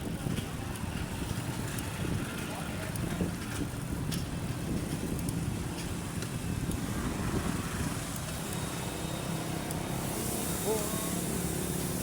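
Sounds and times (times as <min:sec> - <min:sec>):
bicycle road rumble: 0:00.0 - 0:12.0.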